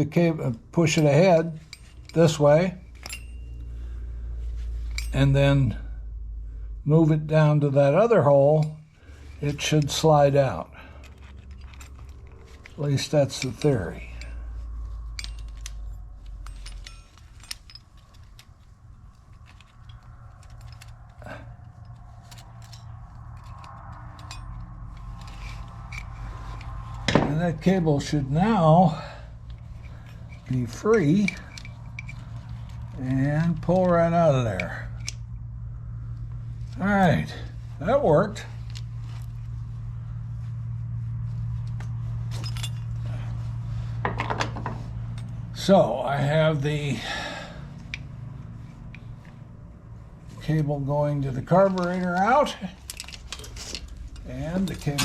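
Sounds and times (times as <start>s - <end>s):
steady low hum: 0.0s - 55.0s
metallic clinks and rattles: 0.6s - 6.3s, 8.5s - 45.7s, 46.5s - 50.6s, 51.3s - 55.0s.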